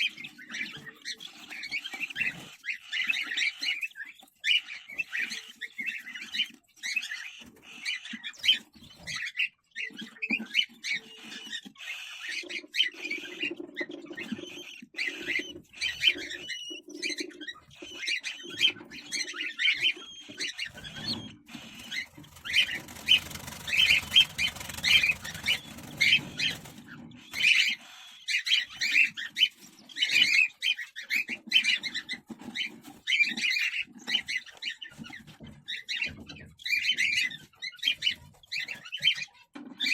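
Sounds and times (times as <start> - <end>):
cockatiels chirping: 0.0 - 39.9.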